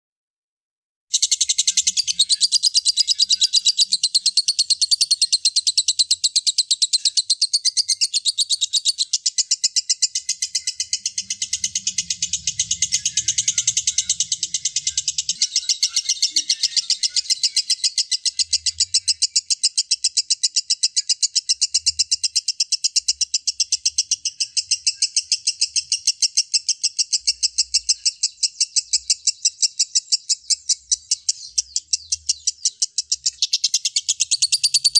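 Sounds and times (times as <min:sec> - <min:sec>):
lovebird chattering: 0:01.1 - 0:34.9.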